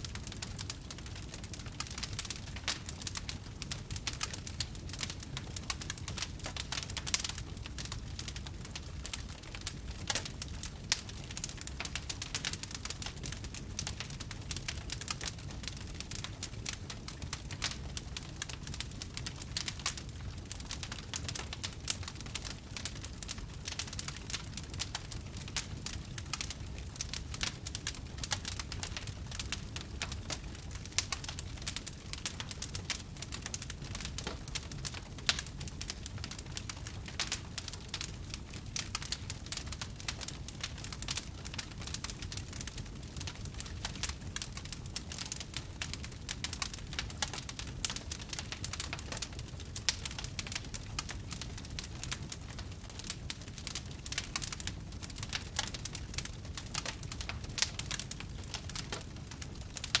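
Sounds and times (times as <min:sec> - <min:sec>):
campfire crackling and popping: 0:00.0 - 1:00.0
low rumble of burning fire: 0:00.0 - 1:00.0.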